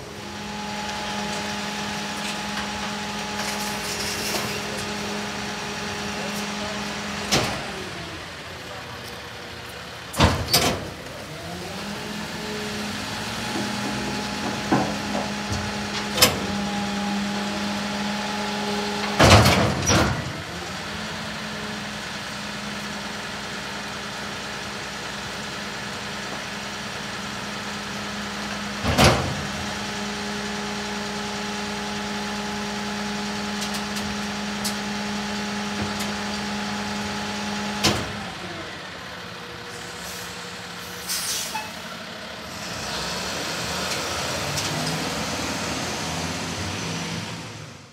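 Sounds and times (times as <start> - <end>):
garbage truck engine drone: 0.0 - 47.9.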